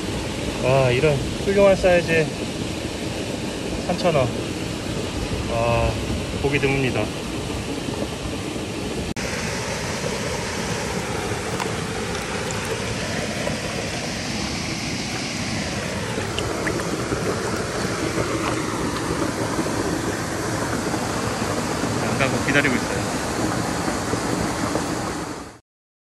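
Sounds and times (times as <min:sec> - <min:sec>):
stream running over rocks: 0:00.0 - 0:25.6.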